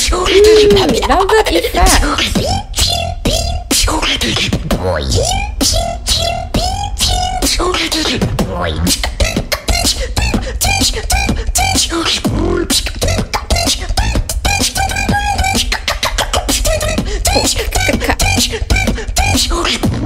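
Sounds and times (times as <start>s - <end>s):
sliding pitched vocal sounds: 0.0s - 20.0s
vocal beatbox bass: 0.0s - 20.0s.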